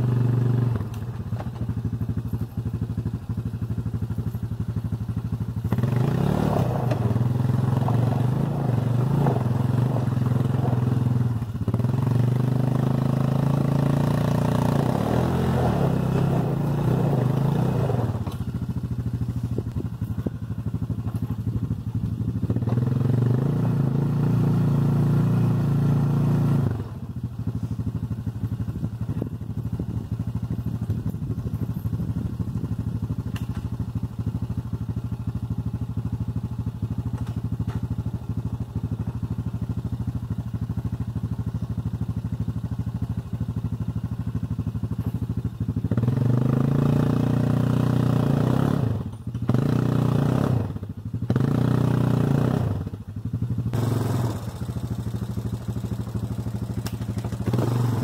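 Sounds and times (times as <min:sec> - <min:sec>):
atv engine revving and idling: 0:00.0 - 0:58.0.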